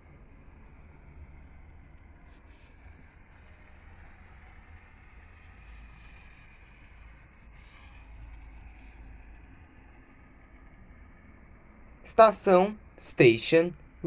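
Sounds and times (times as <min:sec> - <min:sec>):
wheel and rail noise: 0:00.0 - 0:12.0.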